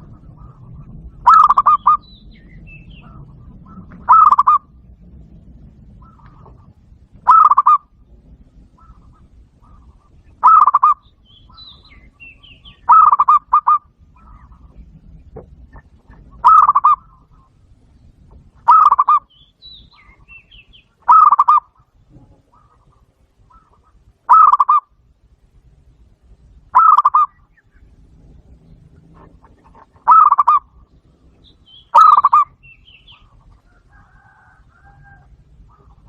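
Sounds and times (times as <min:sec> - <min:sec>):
dove cooing: 0:00.0 - 0:04.9, 0:05.7 - 0:17.6, 0:18.4 - 0:19.3, 0:20.0 - 0:25.0, 0:26.7 - 0:28.0, 0:28.7 - 0:36.0.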